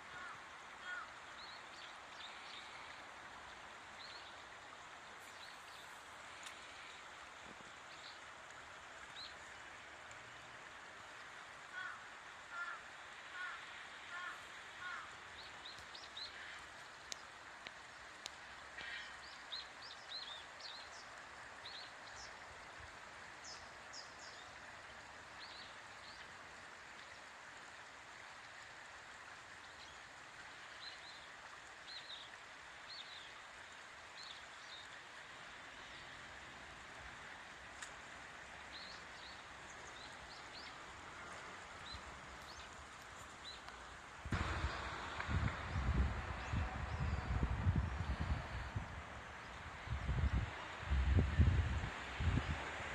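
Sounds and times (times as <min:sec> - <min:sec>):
stream rushing: 0:00.0 - 0:52.9.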